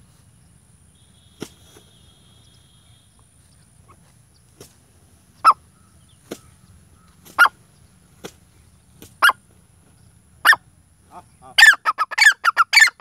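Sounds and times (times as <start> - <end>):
francolin calling: 0.4 - 4.5, 5.3 - 13.0.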